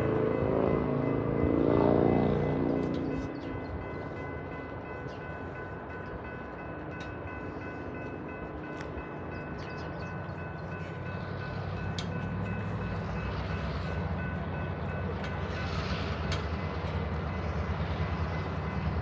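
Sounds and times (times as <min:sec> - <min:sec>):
locomotive engine rumble: 0:00.0 - 0:19.0
railroad crossing bell ringing: 0:00.0 - 0:19.0.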